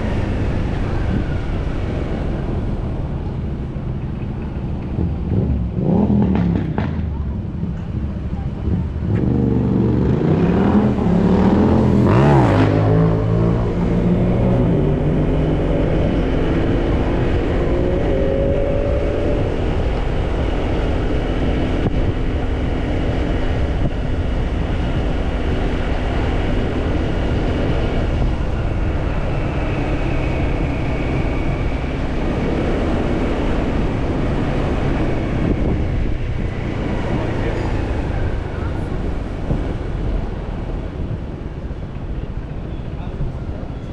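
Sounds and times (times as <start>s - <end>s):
road and wind noise: 0.0s - 43.9s.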